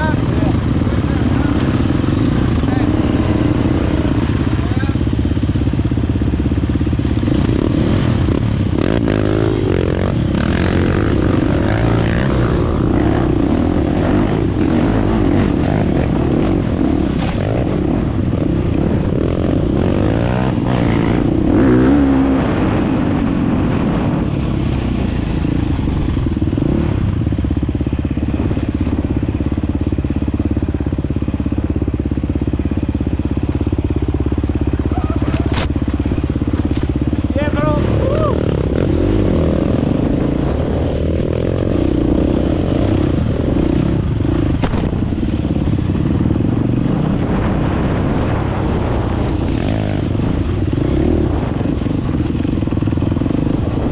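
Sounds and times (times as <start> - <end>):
dirt bike engine revving: 0.0 - 24.1, 24.8 - 53.9.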